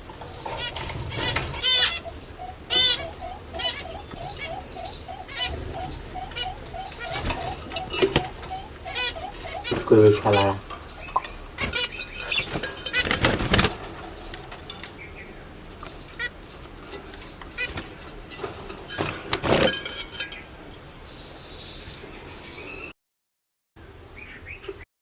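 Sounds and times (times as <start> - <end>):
doves fluttering in cage: 0.0 - 20.8.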